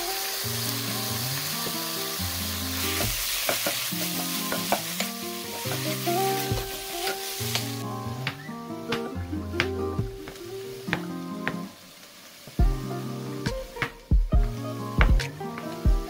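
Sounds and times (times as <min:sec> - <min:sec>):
background music: 0:00.0 - 0:11.9, 0:12.6 - 0:16.0
chicken and onion sizzling: 0:00.0 - 0:16.0.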